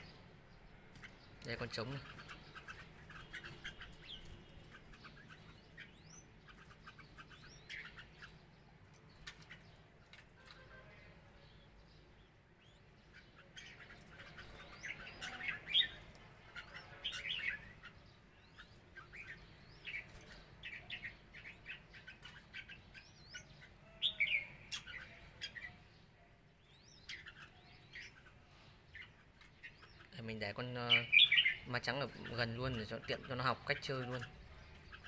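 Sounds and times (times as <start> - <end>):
birds chirping and warbling: 0.0 - 35.0.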